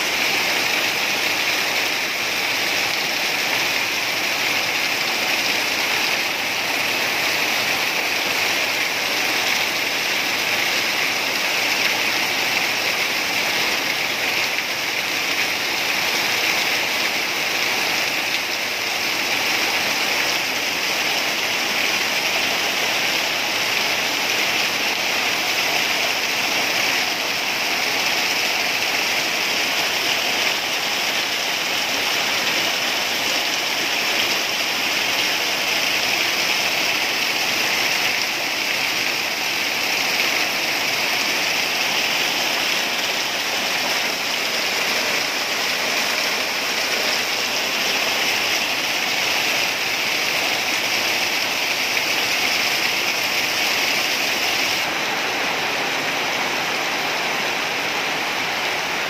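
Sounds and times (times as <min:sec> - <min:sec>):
water pouring off roof edge: 0:00.0 - 0:54.9
heavy rain: 0:00.0 - 0:59.0.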